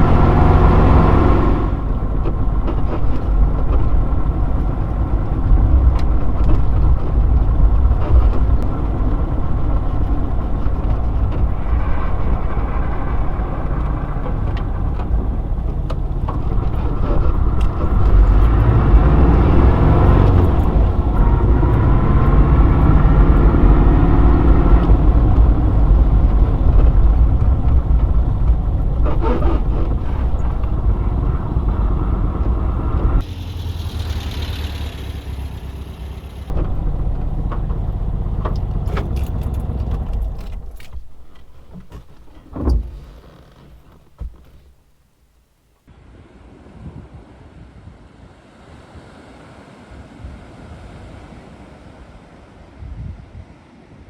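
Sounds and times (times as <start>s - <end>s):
car engine running and revving: 0.0s - 44.8s.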